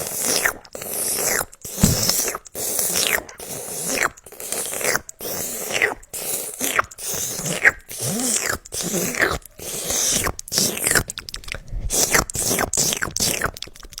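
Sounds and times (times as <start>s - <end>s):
wet mouth smacks and clicks: 0.0s - 14.0s.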